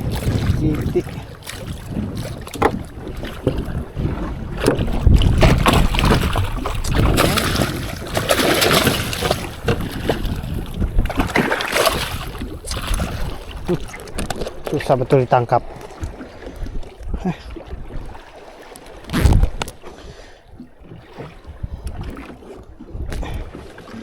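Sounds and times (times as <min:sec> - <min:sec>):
wind buffeting microphone: 0:00.0 - 0:18.3, 0:19.0 - 0:23.7
water splashing against boat: 0:00.0 - 0:24.0.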